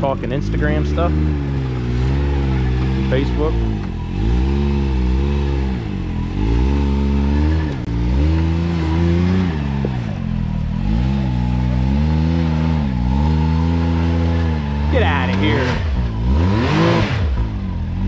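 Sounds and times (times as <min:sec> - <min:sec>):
engine revving under load: 0:00.0 - 0:18.0.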